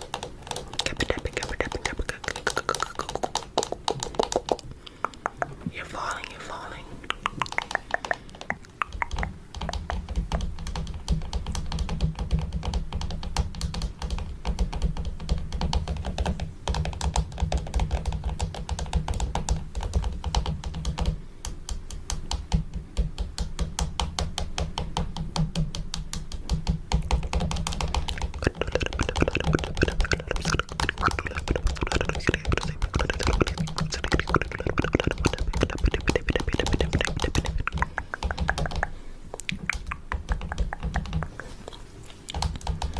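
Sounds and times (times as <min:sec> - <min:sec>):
fingernails tapping on microphone: 0:00.0 - 0:05.7, 0:07.1 - 0:42.9.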